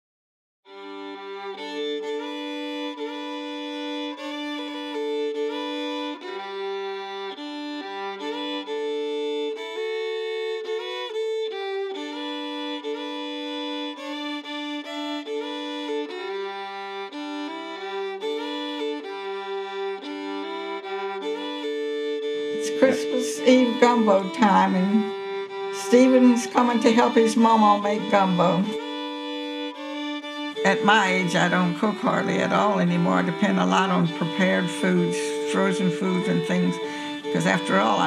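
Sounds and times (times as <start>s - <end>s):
solo fiddle playing: 0.7s - 38.0s.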